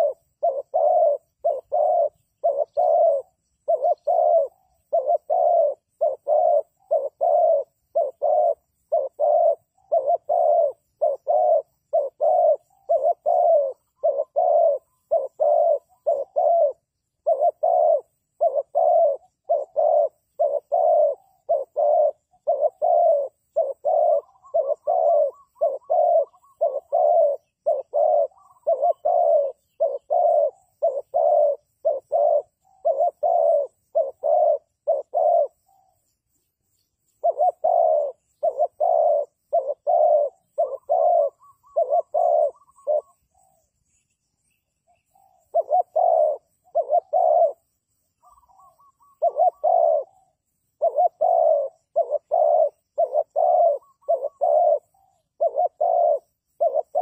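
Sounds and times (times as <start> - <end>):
dove cooing: 0.0 - 44.0, 44.9 - 57.0.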